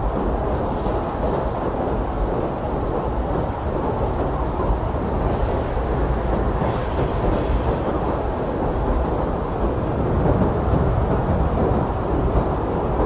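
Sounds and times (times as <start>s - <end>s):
strong wind blowing: 0.0s - 13.0s.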